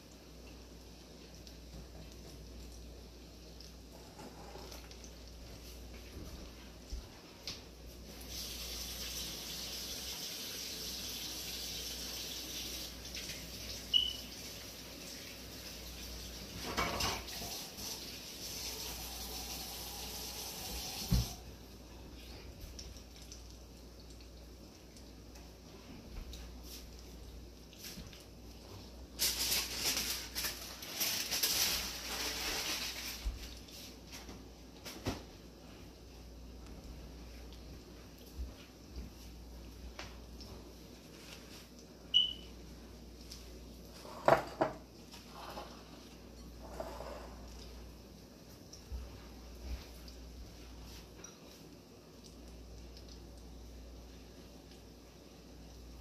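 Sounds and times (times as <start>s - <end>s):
dough deep-frying in oil: 0.0s - 56.0s.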